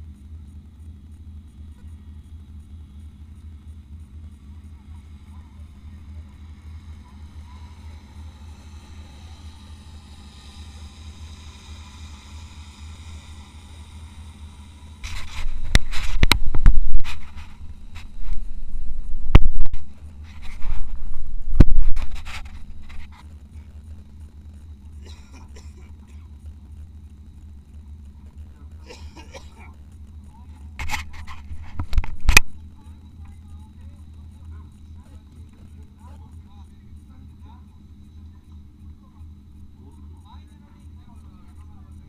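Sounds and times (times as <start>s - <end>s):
engine droning: 0.0s - 42.0s.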